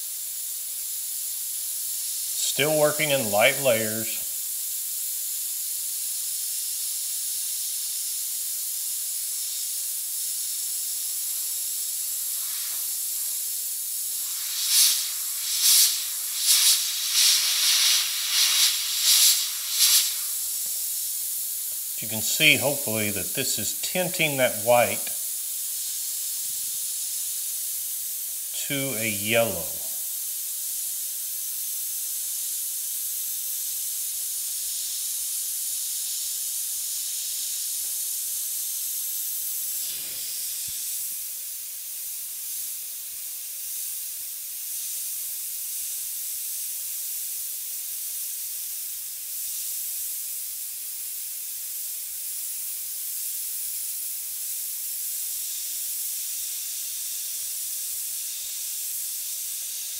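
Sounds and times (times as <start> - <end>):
airbrush hissing: 0.0 - 59.9.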